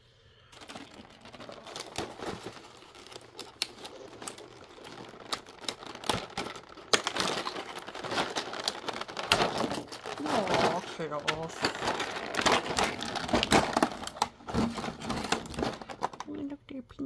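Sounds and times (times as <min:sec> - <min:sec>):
plastic tray crinkling and clicking: 0:00.6 - 0:16.4.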